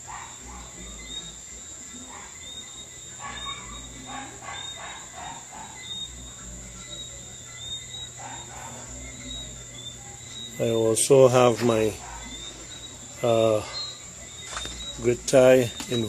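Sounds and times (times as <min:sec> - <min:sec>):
faint low hum: 0:00.0 - 0:16.0
high continuous trill: 0:00.0 - 0:16.0
insects chirping: 0:00.0 - 0:16.0.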